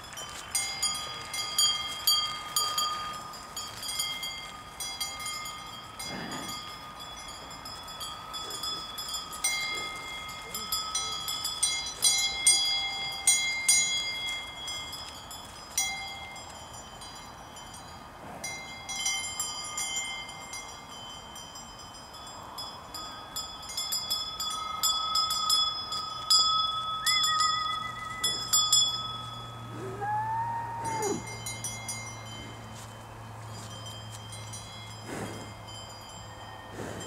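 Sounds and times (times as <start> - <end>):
cowbells clanking: 0.0 - 30.0, 30.8 - 37.0.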